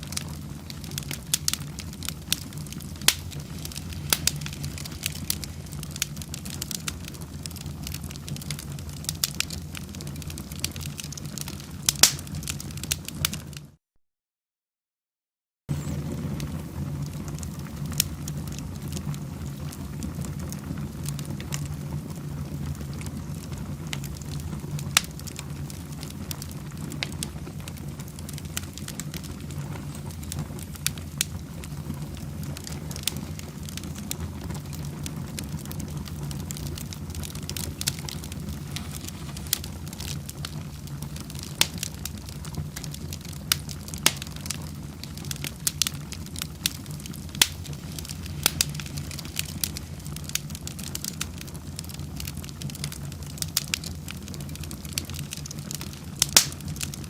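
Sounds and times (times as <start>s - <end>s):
fireplace fire burning: 0.0s - 13.8s, 15.7s - 57.0s.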